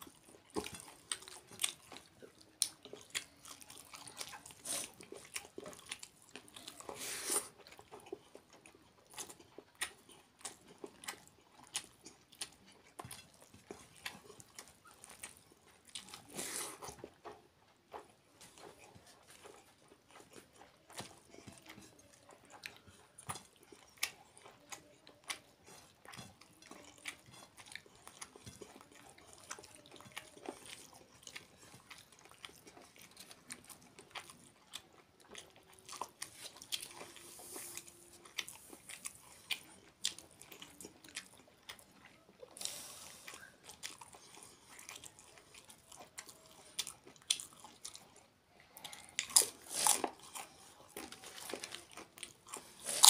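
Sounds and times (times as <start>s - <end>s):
chewing and crunching wafer: 0.0s - 53.0s.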